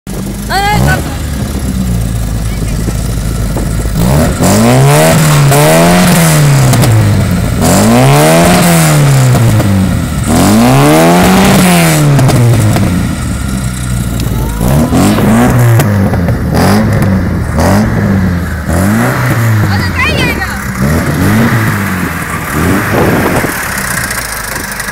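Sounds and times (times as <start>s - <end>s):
car engine revving: 0.2s - 24.9s.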